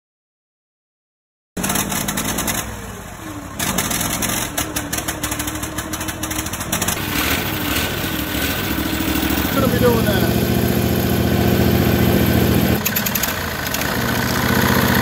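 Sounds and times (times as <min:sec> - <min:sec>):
garden tractor engine running: 0:01.6 - 0:15.0.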